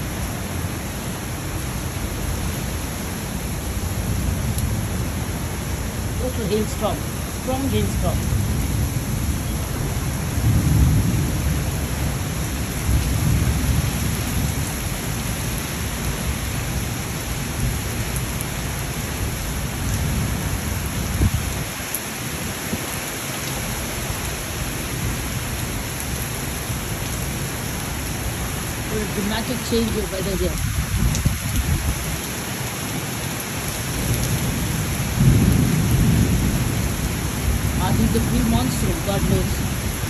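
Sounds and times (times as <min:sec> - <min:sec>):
heavy rain and hail pelting: 0:00.0 - 0:40.0
wind gusting on microphone: 0:02.4 - 0:23.1, 0:28.1 - 0:40.0.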